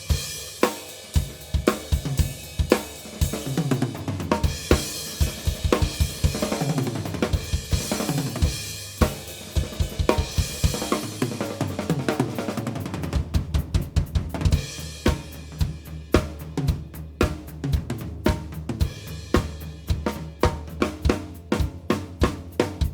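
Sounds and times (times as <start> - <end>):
bass drum: 0.0 - 22.9
low ringing tom drums: 0.0 - 22.9
snare drum: 0.0 - 22.9.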